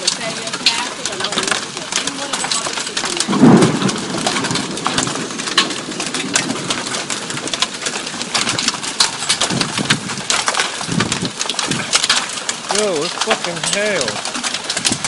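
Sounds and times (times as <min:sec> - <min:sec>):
hailstones pelting down: 0:00.0 - 0:15.0.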